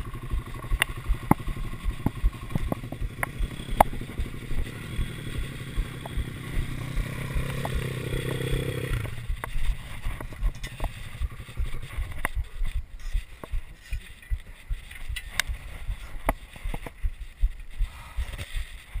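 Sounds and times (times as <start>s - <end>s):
motorbike engine under throttle: 0.0s - 17.6s
bike rattling over rough trail: 0.0s - 19.0s.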